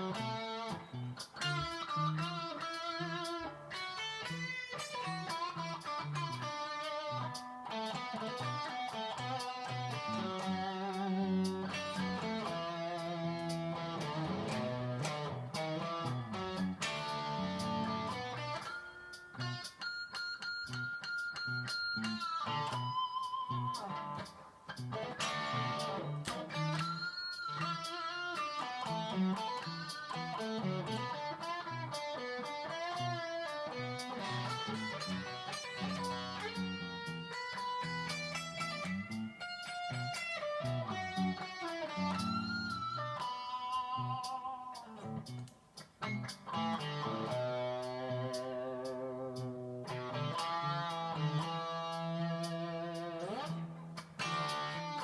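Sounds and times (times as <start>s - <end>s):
electric guitar lead lines: 0.0s - 55.0s.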